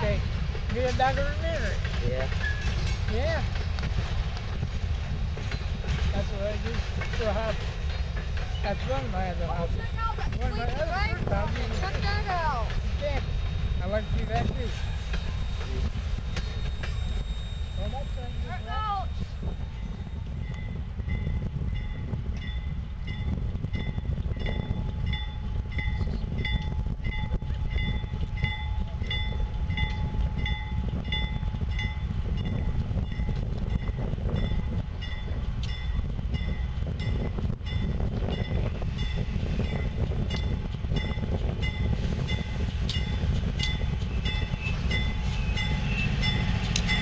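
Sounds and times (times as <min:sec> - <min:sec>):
diesel locomotive rumbling: 0:00.0 - 0:47.0
railroad warning bell dinging: 0:00.0 - 0:47.0.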